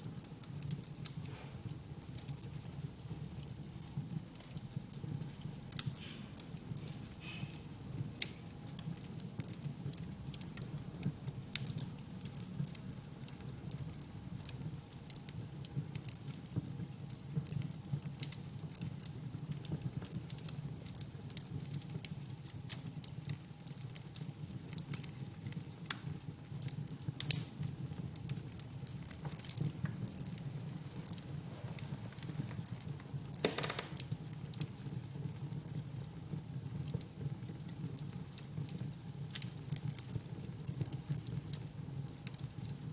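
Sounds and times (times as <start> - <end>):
wood fire crackling: 0.0 - 42.9
fire popping: 0.1 - 42.9.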